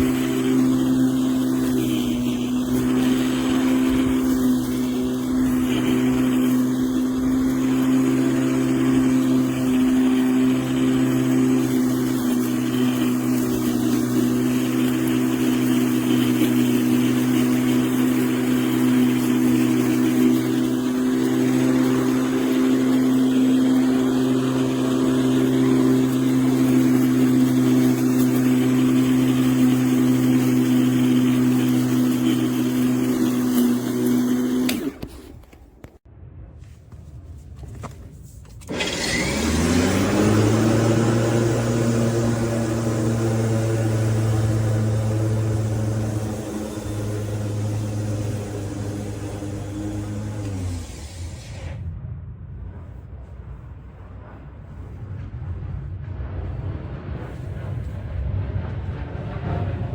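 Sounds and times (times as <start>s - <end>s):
electric lawn mower humming: 0.0s - 36.0s, 38.7s - 51.8s.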